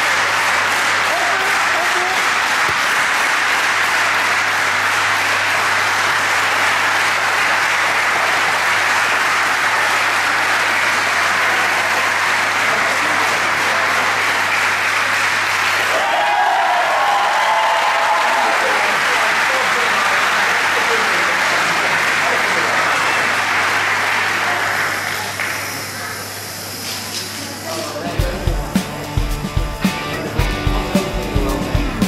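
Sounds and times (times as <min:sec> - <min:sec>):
audience applauding: 0:00.0 - 0:26.4
people cheering: 0:00.0 - 0:26.4.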